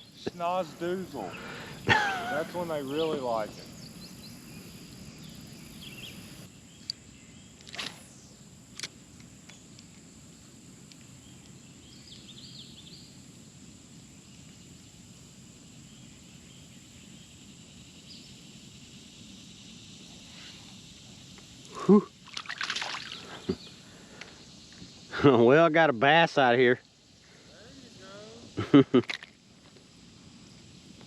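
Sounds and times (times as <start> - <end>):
faint steady background noise: 0.0 - 31.0.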